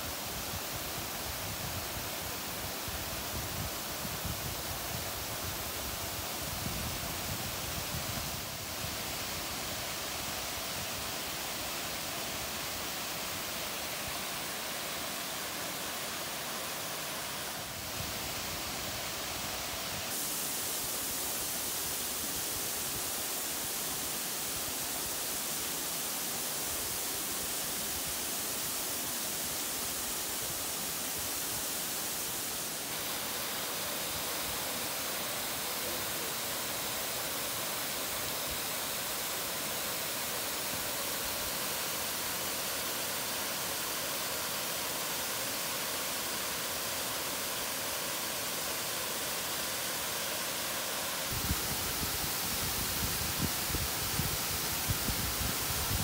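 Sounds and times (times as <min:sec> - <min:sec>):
waterfall pouring into pool: 0:00.0 - 0:56.0.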